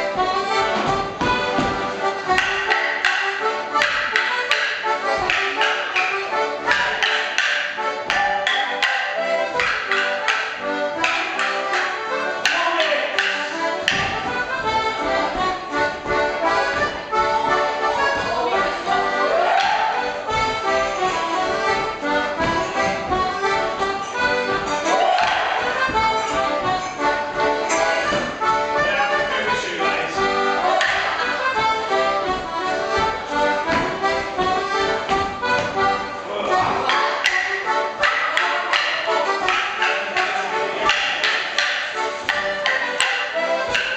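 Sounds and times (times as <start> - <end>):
folk dance tune: 0.0 - 43.9
wooden sticks clacking: 1.6 - 28.5, 30.6 - 36.0, 36.6 - 43.9.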